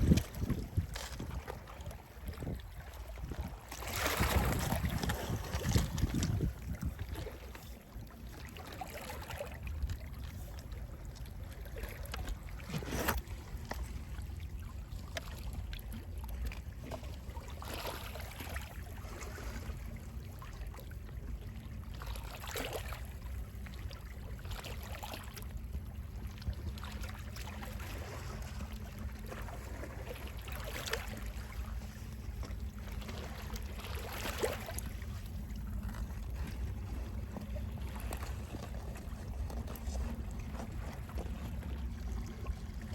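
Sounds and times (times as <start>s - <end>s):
sea waves lapping: 0.0s - 42.9s.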